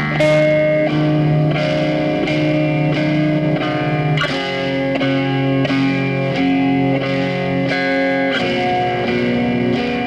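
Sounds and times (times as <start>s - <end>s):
guitar chords with effects: 0.0s - 10.0s.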